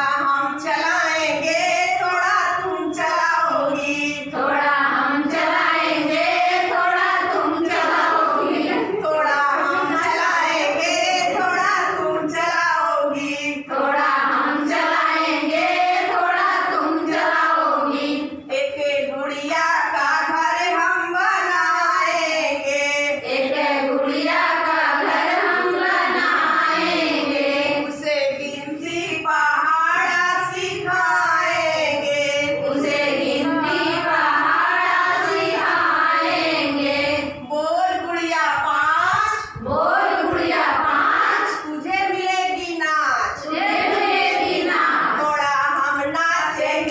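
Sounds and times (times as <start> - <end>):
women singing together: 0.0 - 46.9.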